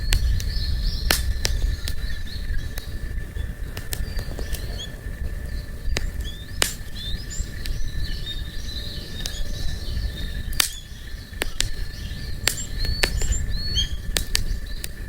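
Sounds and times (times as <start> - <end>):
campfire crackling and popping: 0.0 - 15.0
low rumble: 0.0 - 15.0
small birds chirping: 0.0 - 15.0.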